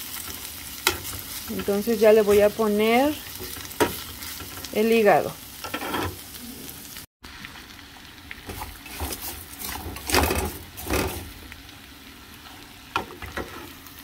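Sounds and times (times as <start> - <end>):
onions and liver sizzling in oil: 0.0 - 14.0.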